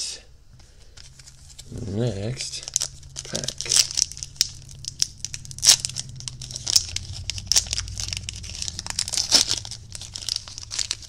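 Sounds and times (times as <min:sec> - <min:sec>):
plastic packaging crackling: 0:00.8 - 0:01.8, 0:02.4 - 0:11.0.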